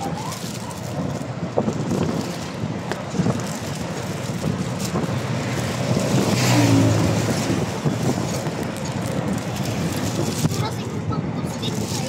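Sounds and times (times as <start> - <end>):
plastic bag crinkling: 0.0 - 10.8
vehicle engine and road rumble: 0.0 - 12.0
wind: 0.0 - 12.0.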